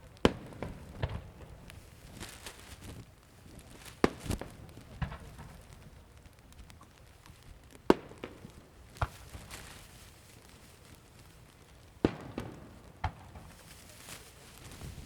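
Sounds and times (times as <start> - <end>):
fireworks bursting with bangs: 0.0 - 15.0.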